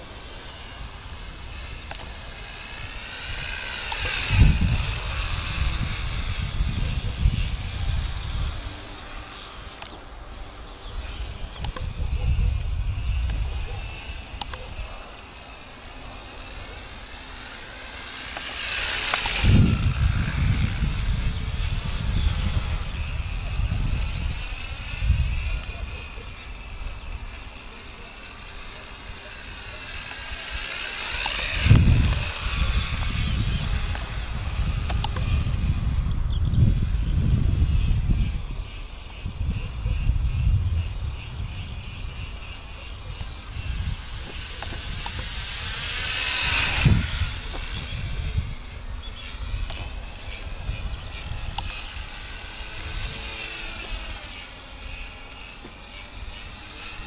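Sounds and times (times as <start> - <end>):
model plane motor whining: 0.0 - 57.0.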